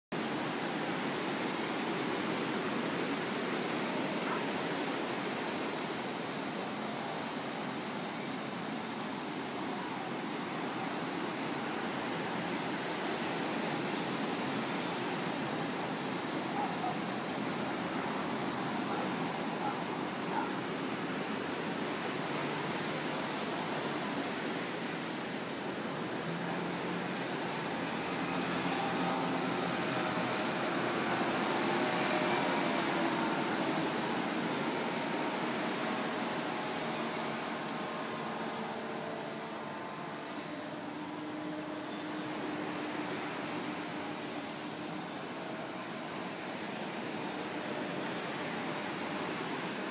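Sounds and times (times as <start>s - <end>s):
distant paraglider engine drone: 0.1s - 49.9s
ocean surf breaking: 0.2s - 49.9s.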